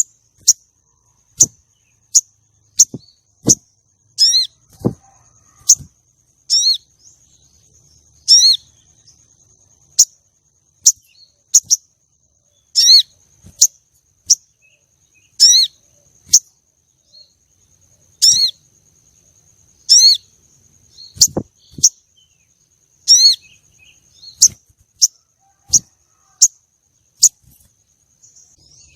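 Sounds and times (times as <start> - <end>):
bird chirping calls: 0.0 - 28.9.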